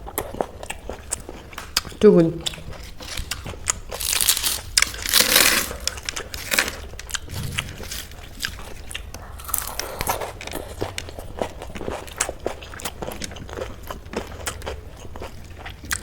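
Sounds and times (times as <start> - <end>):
crunchy bites and chewing: 0.2 - 16.0.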